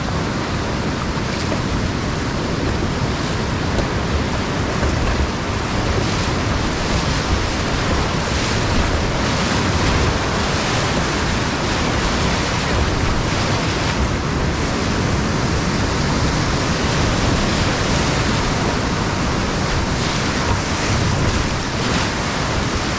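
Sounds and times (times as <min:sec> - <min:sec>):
whitewater rapids rushing: 0:00.0 - 0:22.9.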